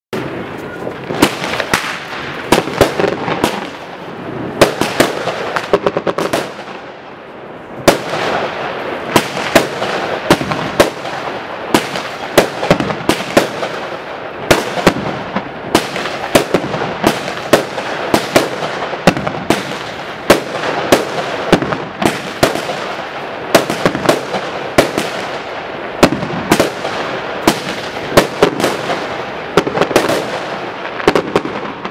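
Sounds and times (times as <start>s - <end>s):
fireworks bangs: 0.1s - 31.9s
fireworks crackling hiss: 0.2s - 31.9s.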